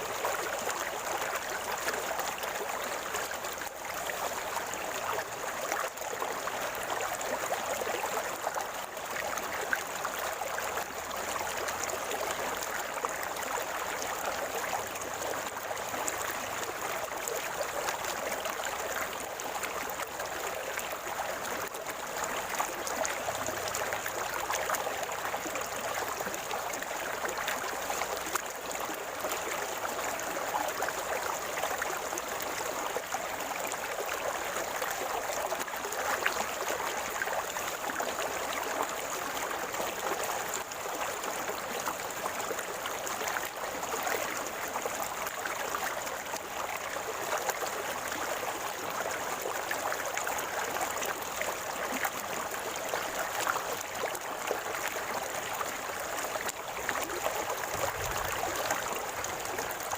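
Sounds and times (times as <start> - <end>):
water gurgling over rocks: 0.0 - 59.9.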